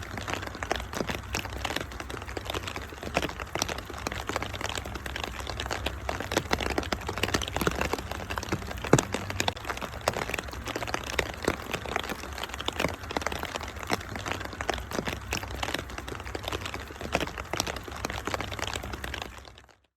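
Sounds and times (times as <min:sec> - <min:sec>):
wood fire crackling: 0:00.0 - 0:19.7.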